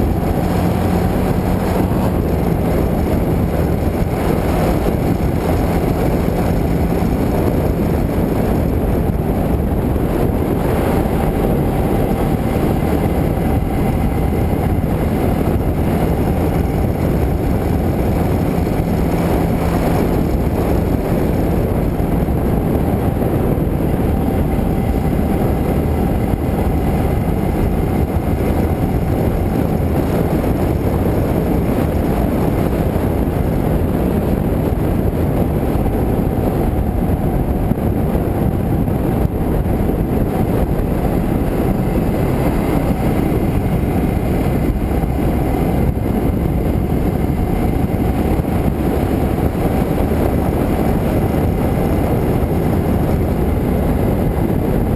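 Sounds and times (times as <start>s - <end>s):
motorcycle engine cruising: 0.0s - 54.9s
wind rushing over microphone: 0.0s - 54.9s.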